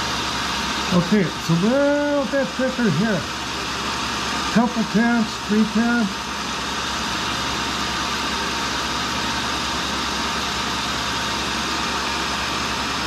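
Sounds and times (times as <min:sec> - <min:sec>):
grinder motor whirring: 0:00.0 - 0:13.0.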